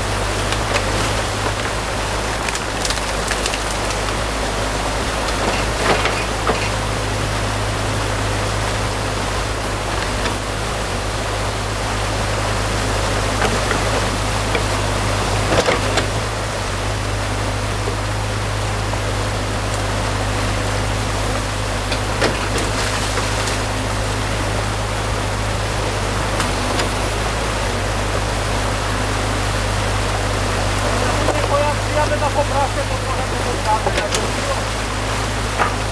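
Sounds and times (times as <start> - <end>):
excavator diesel engine running: 0.0 - 35.9
muddy water rushing: 0.0 - 35.9.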